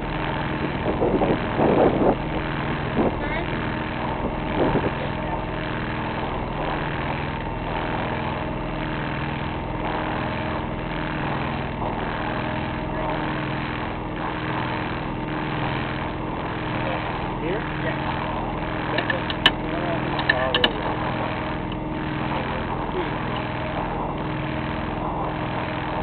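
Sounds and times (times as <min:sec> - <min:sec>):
boat engine drone with pulse: 0:00.0 - 0:26.0.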